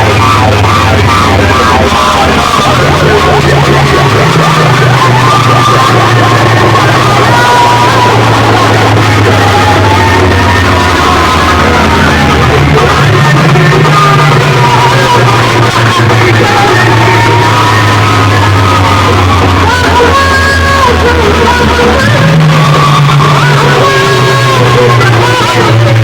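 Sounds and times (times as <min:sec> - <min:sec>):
loud music with heavy bass: 0:00.0 - 0:26.0.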